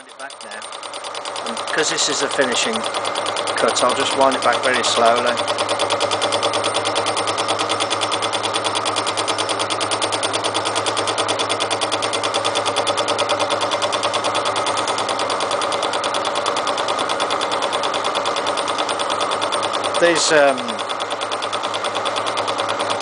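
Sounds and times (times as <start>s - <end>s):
milling machine motor hum: 0.0s - 23.0s.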